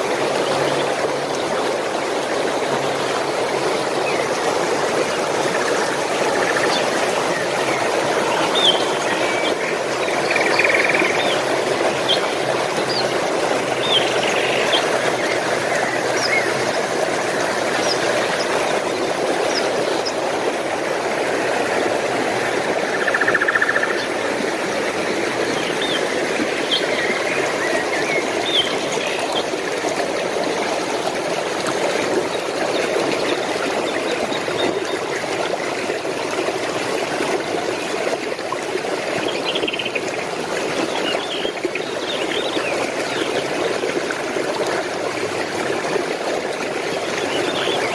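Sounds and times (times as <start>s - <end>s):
stream water flowing: 0.0s - 47.9s.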